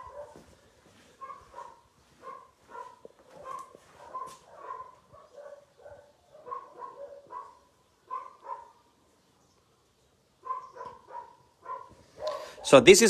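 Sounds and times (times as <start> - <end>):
dogs barking: 0.0 - 9.0, 10.4 - 12.9.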